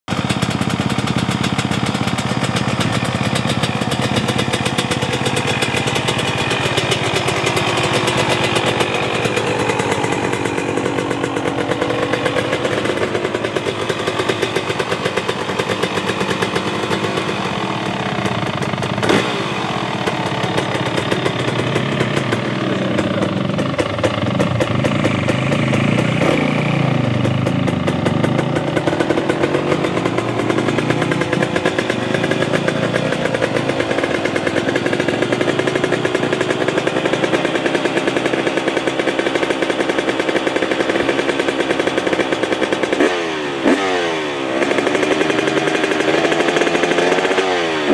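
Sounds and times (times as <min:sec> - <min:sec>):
motocross engine revving: 0:00.1 - 0:47.9.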